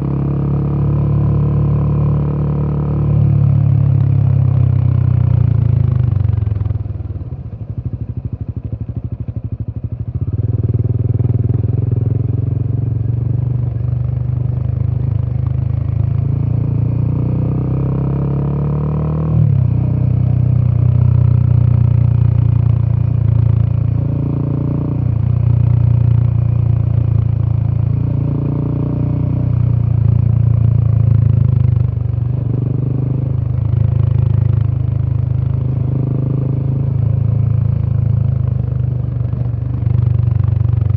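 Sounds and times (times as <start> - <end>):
motorcycle exhaust revving: 0.0 - 40.9.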